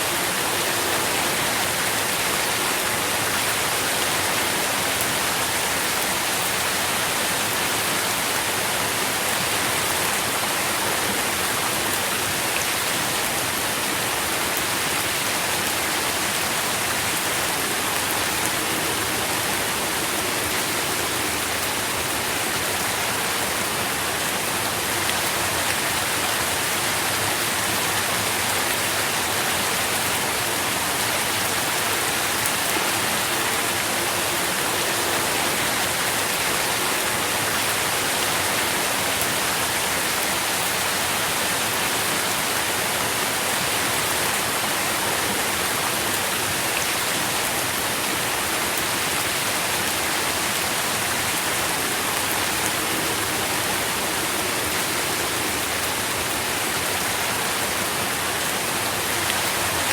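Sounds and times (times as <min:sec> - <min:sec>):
rain hissing and pattering: 0:00.0 - 0:59.9.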